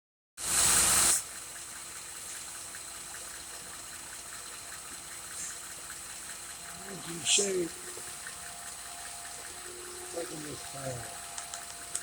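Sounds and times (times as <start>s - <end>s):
car engine idling: 0.4s - 12.0s.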